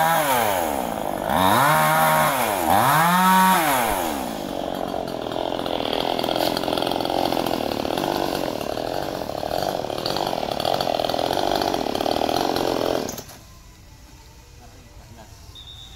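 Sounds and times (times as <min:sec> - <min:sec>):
chainsaw running at high speed: 0:00.0 - 0:13.3.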